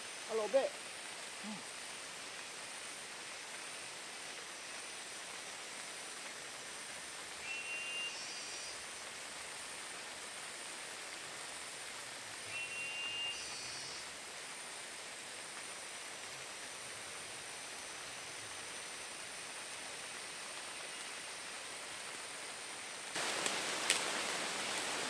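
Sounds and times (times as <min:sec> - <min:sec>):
rain falling in forest: 0:00.0 - 0:25.0.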